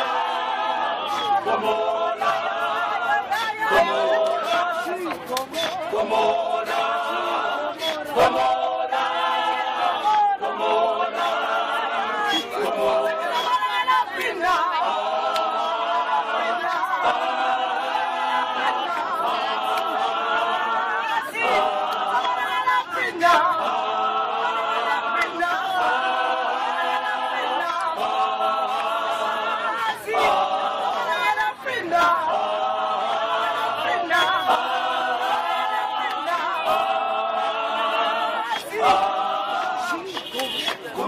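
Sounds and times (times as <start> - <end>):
male choir singing a cappella: 0.0 - 41.0.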